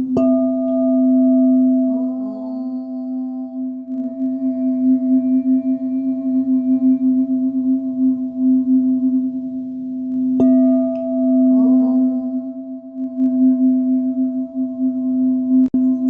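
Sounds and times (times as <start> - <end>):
singing bowl ringing: 0.0 - 16.0
singing bowl struck: 0.0 - 16.0.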